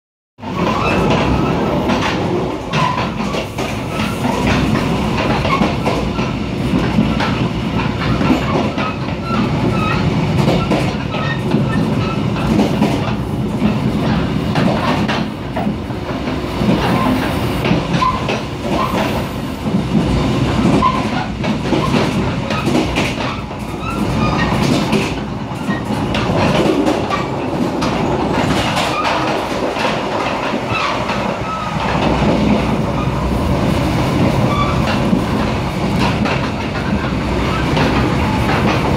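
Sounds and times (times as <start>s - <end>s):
train wheels rumbling on rail: 0.4s - 38.9s
track clicks and knocks: 0.5s - 38.9s.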